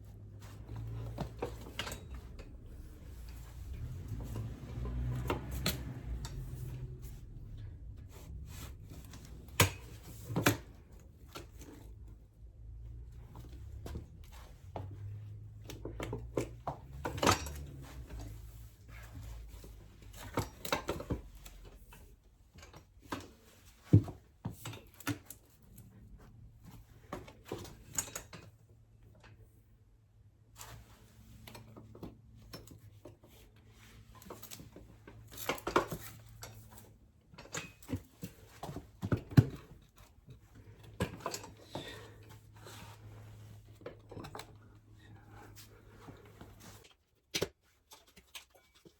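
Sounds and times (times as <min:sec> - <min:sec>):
clicks and knocks of tools and metal: 0:00.1 - 0:29.6, 0:30.6 - 0:48.9.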